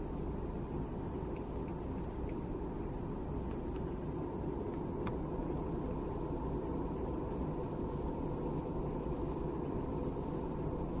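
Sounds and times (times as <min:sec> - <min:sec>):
jet airliner rumble: 0:00.0 - 0:11.0.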